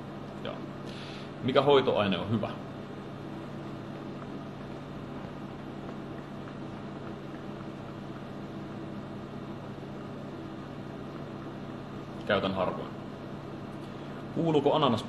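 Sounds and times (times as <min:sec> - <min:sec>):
room hum hiss: 0:00.0 - 0:15.0.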